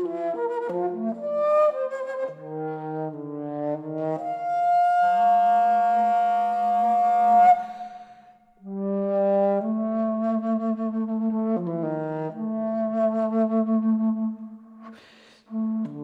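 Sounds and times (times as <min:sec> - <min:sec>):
bass flute playing: 0:00.0 - 0:14.9, 0:15.5 - 0:16.0.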